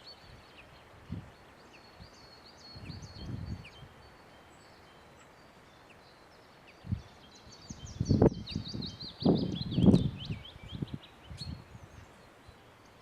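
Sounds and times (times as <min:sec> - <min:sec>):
small birds singing and chirping: 0:00.0 - 0:13.0.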